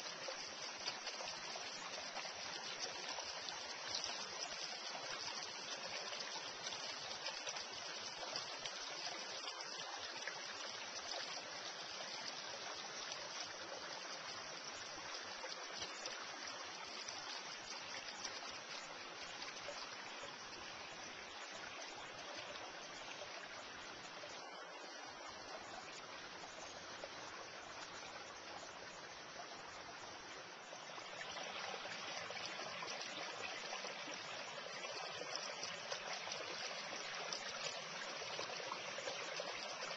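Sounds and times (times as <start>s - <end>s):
creek running over stones: 0.0s - 39.9s.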